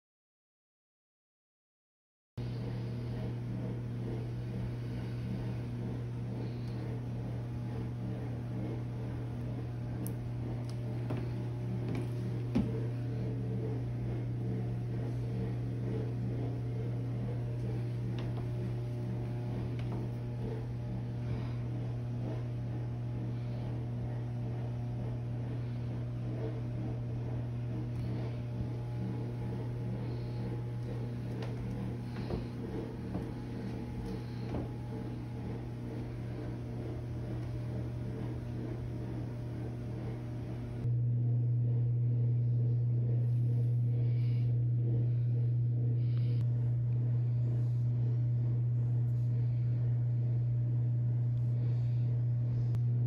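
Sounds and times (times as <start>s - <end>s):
steady low hum: 2.4s - 53.0s.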